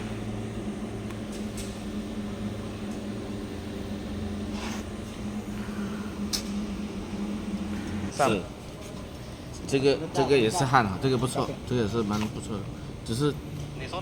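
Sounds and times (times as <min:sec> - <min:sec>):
machinery electrical hum: 0:00.0 - 0:14.0.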